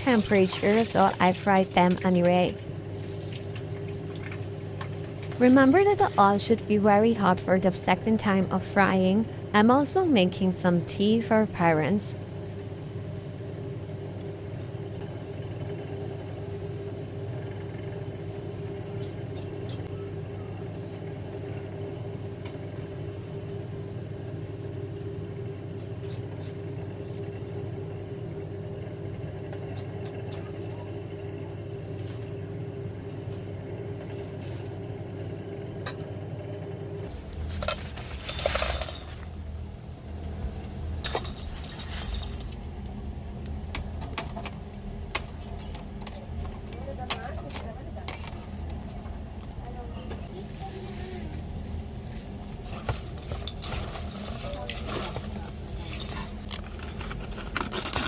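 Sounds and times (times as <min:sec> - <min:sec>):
kitchen appliance humming: 0:00.0 - 0:58.0.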